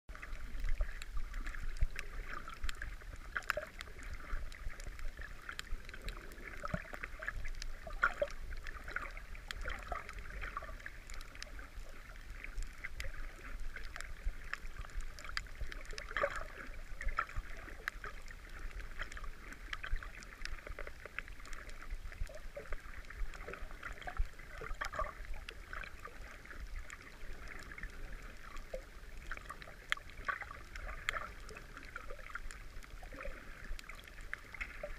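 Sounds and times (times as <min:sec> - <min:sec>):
low water rumble: 0:00.1 - 0:34.9
underwater crackle of clicks: 0:00.1 - 0:34.9.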